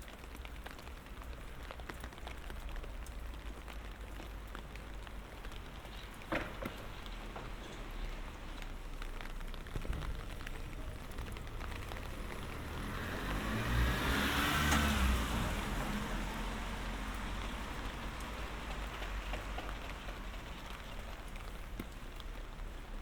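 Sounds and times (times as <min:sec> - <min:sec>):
car passing on wet road: 0:00.0 - 0:23.0
light rain: 0:00.0 - 0:23.0.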